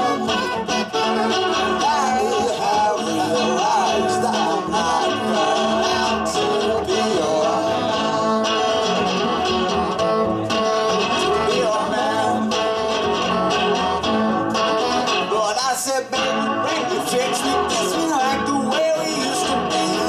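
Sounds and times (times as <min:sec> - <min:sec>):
live band instrumental: 0:00.0 - 0:15.6, 0:16.2 - 0:20.0
guitar strumming: 0:00.0 - 0:20.0.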